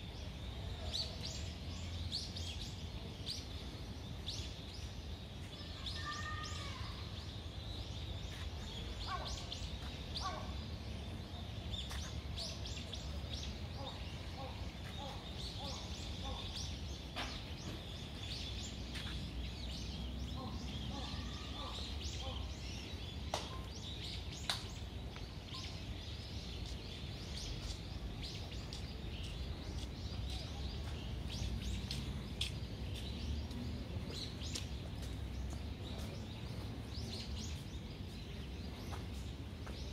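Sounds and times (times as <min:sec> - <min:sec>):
birds calling: 0:05.5 - 0:39.9.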